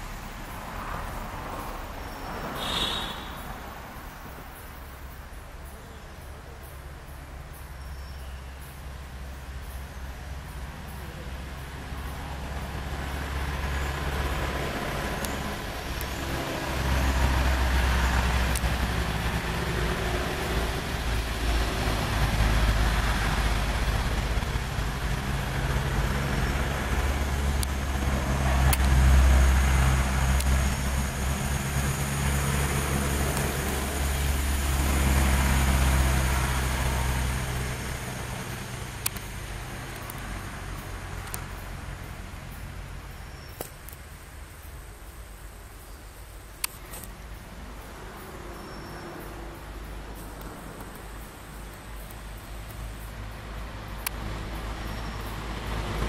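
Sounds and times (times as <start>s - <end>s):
road traffic engine hum: 0.0s - 56.0s.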